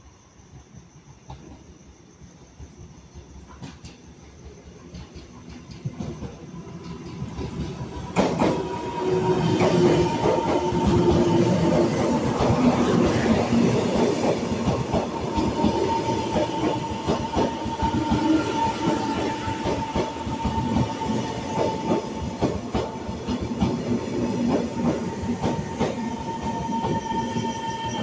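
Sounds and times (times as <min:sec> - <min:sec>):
train wheels clicking on rails: 0:00.5 - 0:28.0.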